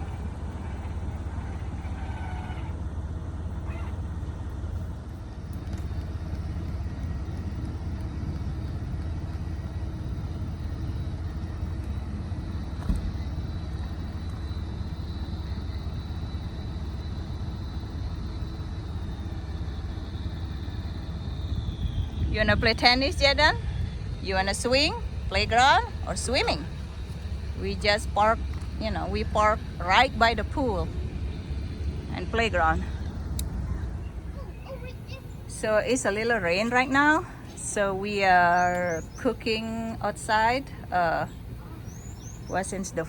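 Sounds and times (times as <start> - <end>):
vehicle engine idling: 0.0 - 43.0
high whine: 3.6 - 42.8.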